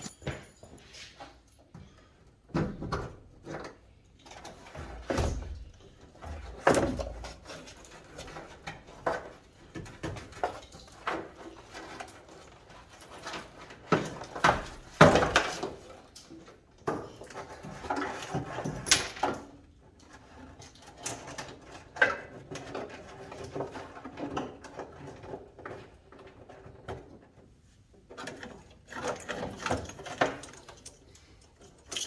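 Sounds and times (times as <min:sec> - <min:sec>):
clicks and knocks of hand work: 0:00.0 - 0:32.0.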